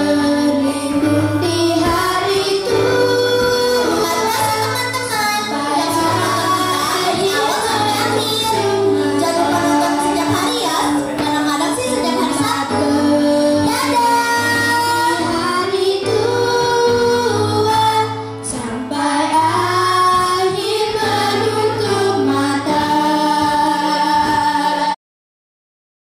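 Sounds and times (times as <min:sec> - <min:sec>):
child singing into microphone: 0:00.0 - 0:25.0
instrumental backing track: 0:00.0 - 0:25.0.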